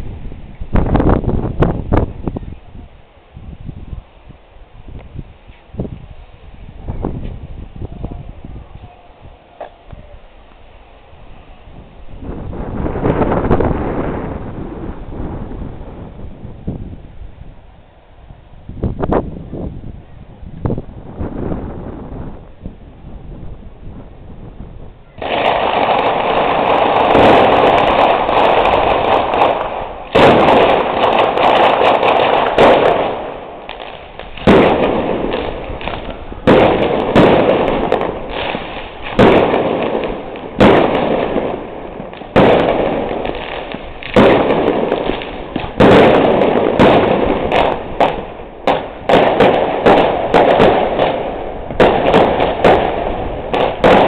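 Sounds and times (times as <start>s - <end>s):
fireworks bangs and crackling: 0.0s - 17.0s, 20.6s - 54.0s.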